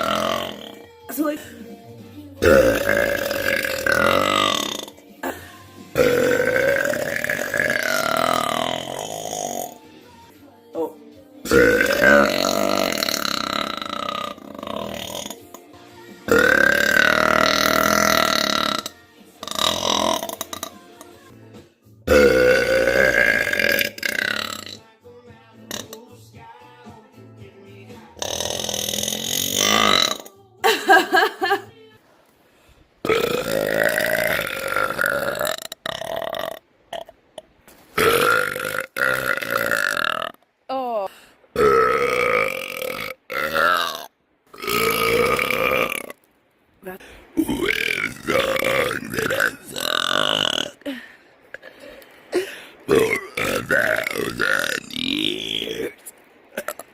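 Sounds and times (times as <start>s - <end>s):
woman burping: 0.0s - 1.6s, 2.4s - 9.8s, 11.5s - 15.6s, 16.3s - 20.9s, 22.1s - 24.8s, 28.2s - 31.6s, 33.0s - 37.1s, 38.0s - 46.2s, 47.0s - 56.9s.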